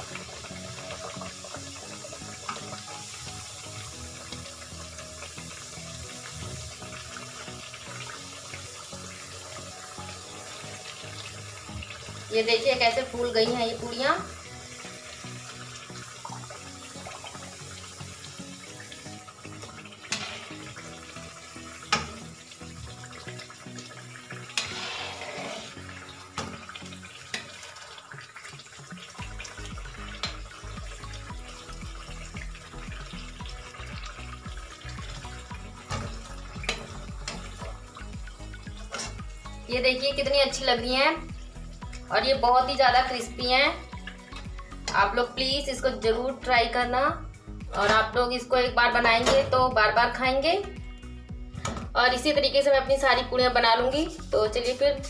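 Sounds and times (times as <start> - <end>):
crackling sizzle of frying oil: 0.0 - 55.0.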